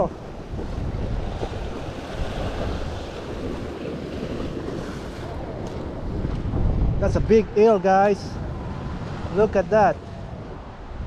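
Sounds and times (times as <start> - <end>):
surf washing over rocks: 0.0 - 11.0
wind buffeting microphone: 0.0 - 11.0.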